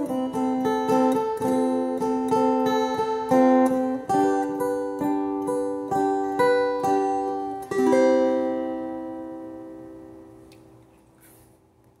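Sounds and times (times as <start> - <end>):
ukulele chords strummed: 0.0 - 10.5.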